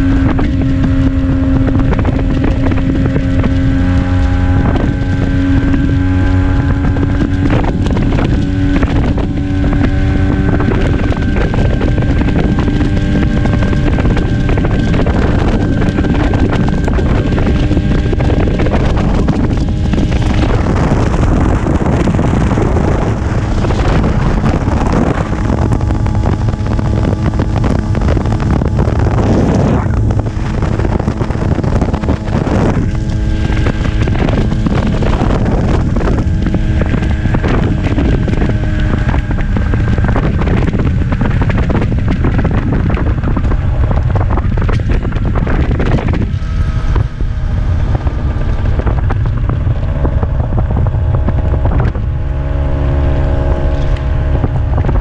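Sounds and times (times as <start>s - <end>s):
scooter engine cruising: 0.0s - 55.0s
wind buffeting microphone: 0.0s - 55.0s.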